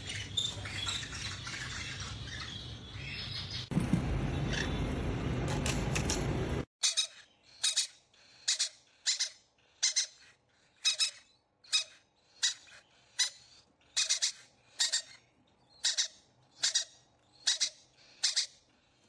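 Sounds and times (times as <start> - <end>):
bird squeaking: 0.0 - 3.7, 6.8 - 18.6.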